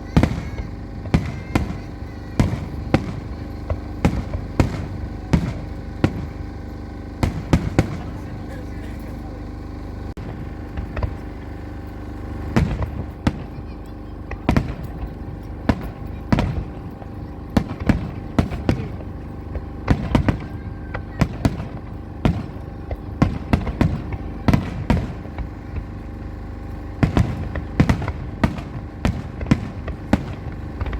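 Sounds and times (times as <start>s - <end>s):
fireworks bangs: 0.0s - 30.9s.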